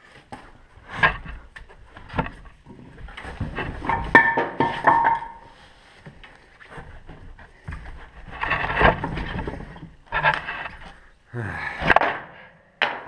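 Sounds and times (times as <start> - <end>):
rubber track scraping and clattering: 0.0 - 11.1.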